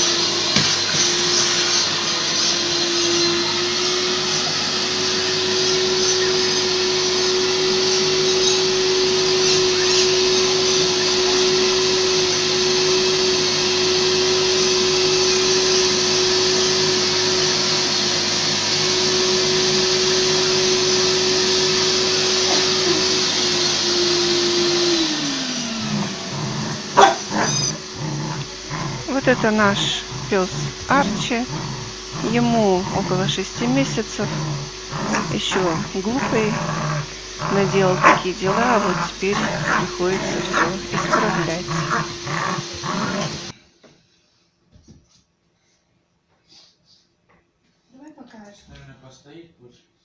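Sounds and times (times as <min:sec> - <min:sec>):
washing vacuum motor whining: 0:00.0 - 0:43.6.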